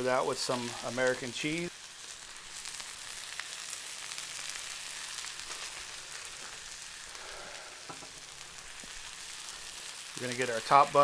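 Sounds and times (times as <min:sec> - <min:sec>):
patties sizzling on a grill: 0:00.0 - 0:11.0.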